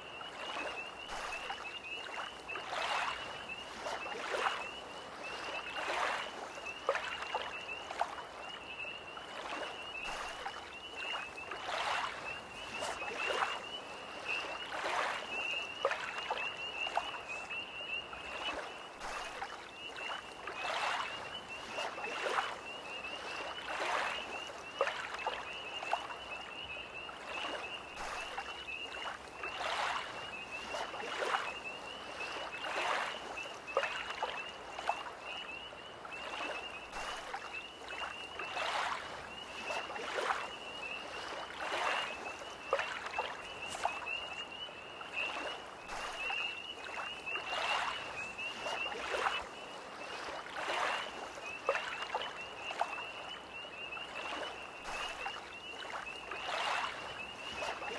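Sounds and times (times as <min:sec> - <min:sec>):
lake waves lapping: 0:00.0 - 0:57.9
tree frogs trilling: 0:00.0 - 0:57.9.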